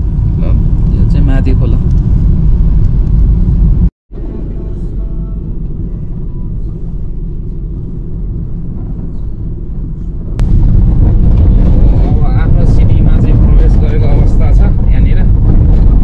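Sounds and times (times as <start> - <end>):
car driving rumble inside car: 0.0 - 16.0.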